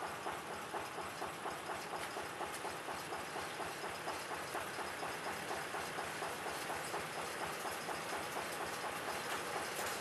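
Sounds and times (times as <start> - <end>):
diesel locomotive engine pulsing: 0.0 - 10.0.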